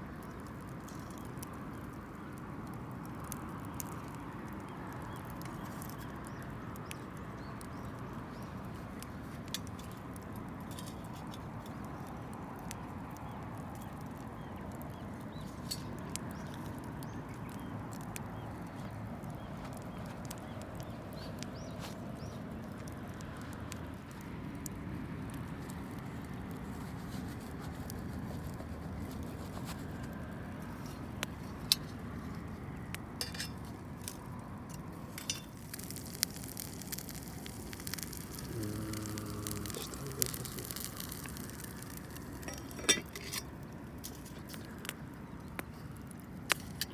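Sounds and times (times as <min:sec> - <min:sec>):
campfire burning and crackling: 0:00.0 - 0:46.9.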